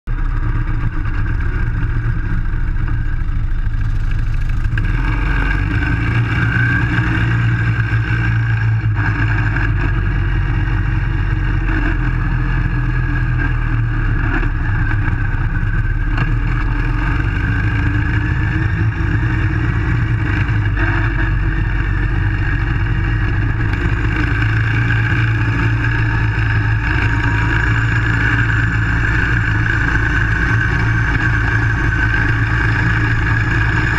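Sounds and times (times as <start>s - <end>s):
car engine running hard: 0.0s - 33.9s.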